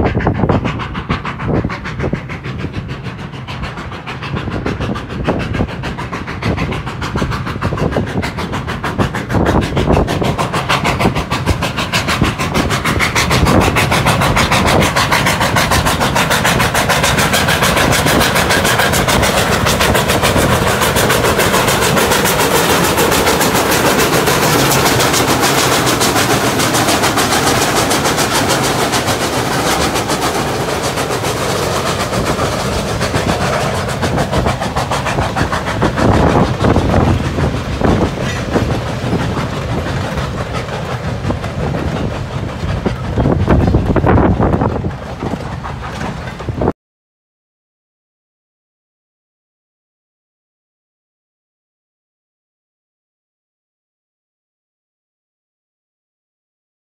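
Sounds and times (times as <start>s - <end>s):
steam locomotive chuffing: 0.0s - 46.7s
train rumble: 0.0s - 46.7s.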